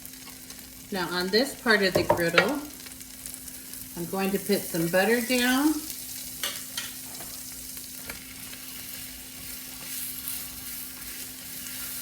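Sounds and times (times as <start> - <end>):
chicken sizzling on a griddle: 0.0 - 12.0.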